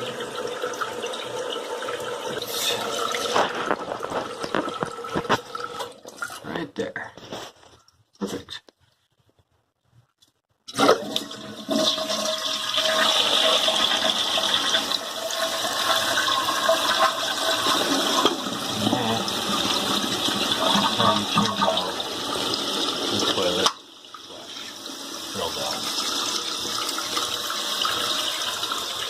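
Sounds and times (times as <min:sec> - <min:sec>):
toilet flushing: 0:00.0 - 0:06.4, 0:10.7 - 0:29.0
toilet tank refilling: 0:00.0 - 0:06.5, 0:10.7 - 0:29.0.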